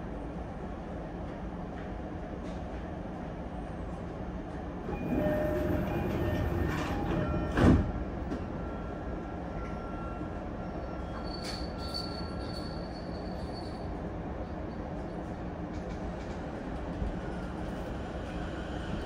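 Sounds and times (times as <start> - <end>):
train car rumble: 0.0 - 19.0.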